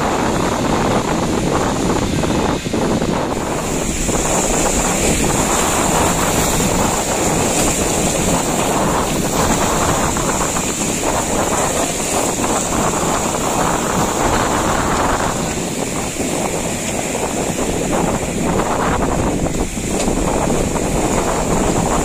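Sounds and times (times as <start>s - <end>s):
rough sea splashing: 0.0s - 22.0s
wind buffeting microphone: 0.0s - 22.0s.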